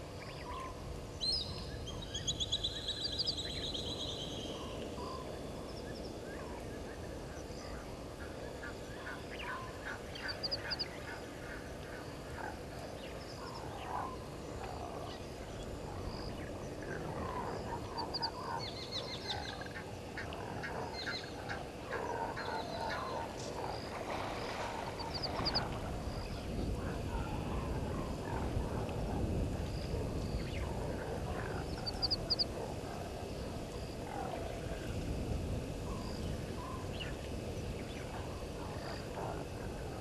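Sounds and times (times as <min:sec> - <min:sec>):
birds chirping trills: 0:00.0 - 0:27.5, 0:29.8 - 0:34.6.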